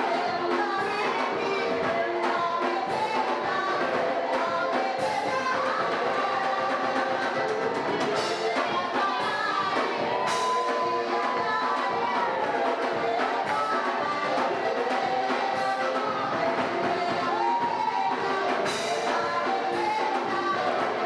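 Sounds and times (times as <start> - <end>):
drum kit: 0.0 - 21.0
lively worship music: 0.0 - 21.0
people singing: 0.0 - 21.0.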